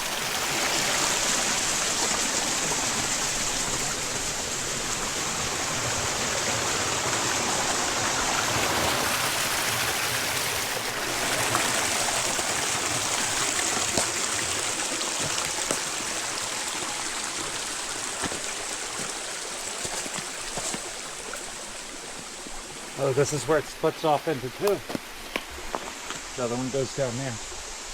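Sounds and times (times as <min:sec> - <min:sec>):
creek water running: 0:00.0 - 0:27.9.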